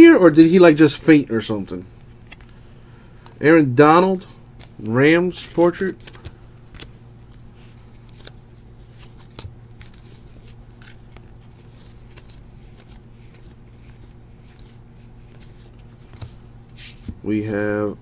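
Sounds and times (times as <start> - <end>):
steady low hum: 0.0 - 18.0
cards clicking and sliding: 1.9 - 3.4, 4.0 - 17.2.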